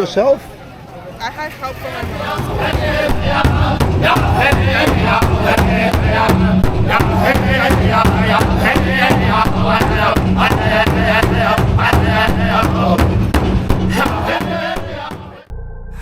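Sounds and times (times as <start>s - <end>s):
group singing a high chant: 1.7s - 15.5s
large drum beat: 2.0s - 15.4s.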